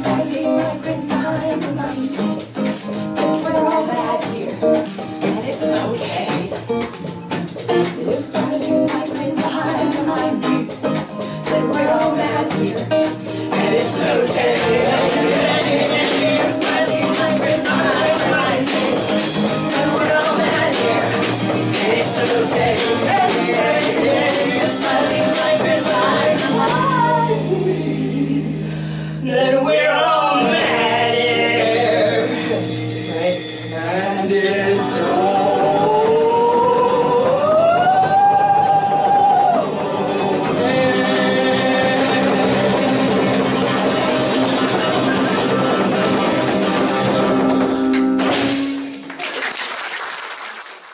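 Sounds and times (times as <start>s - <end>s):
frame drum: 0.0s - 27.5s, 30.5s - 48.9s
folk-rock band with singing: 0.0s - 48.8s
bass guitar: 0.0s - 49.2s
acoustic guitar: 0.0s - 49.3s.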